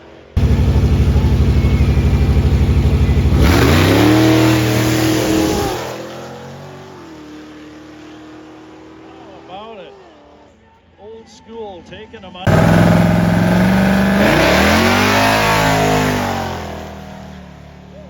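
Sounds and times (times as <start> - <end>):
drag racing car engine: 0.4 - 9.5, 12.5 - 18.0.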